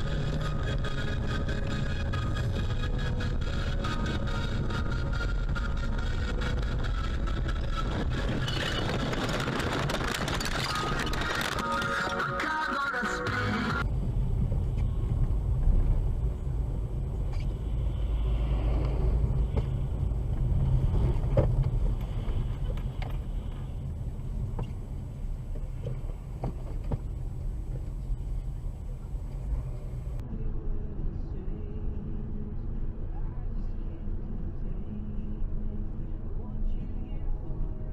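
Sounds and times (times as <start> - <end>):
car engine rumble: 0.0 - 37.9
road noise: 0.0 - 37.9.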